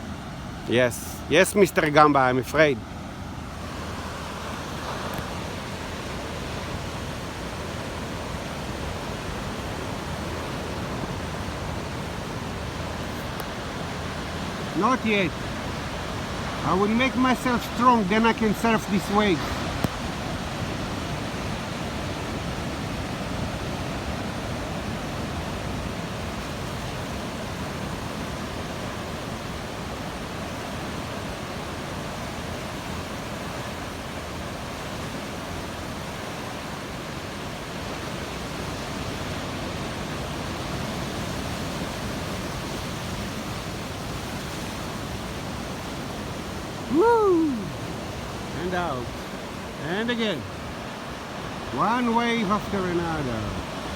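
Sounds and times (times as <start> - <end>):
ocean surf breaking: 0.0 - 53.9.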